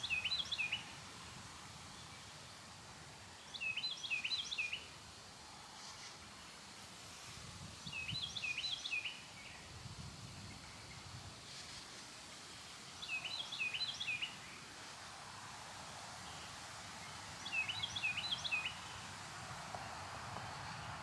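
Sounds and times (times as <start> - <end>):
breeze through trees: 0.0 - 21.0.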